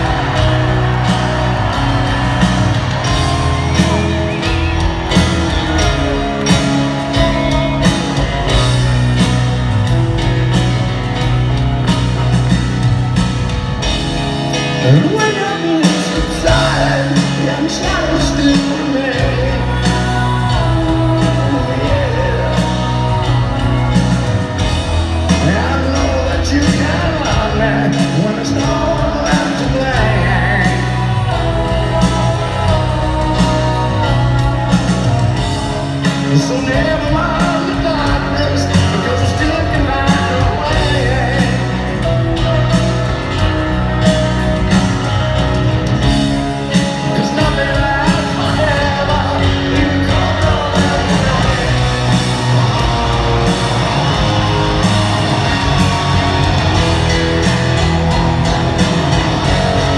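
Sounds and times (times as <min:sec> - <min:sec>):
man singing lead vocals: 0:00.0 - 0:08.8, 0:14.5 - 0:44.2, 0:46.0 - 0:59.9
grand piano: 0:00.0 - 0:59.9
live rock band playing: 0:00.0 - 0:59.9.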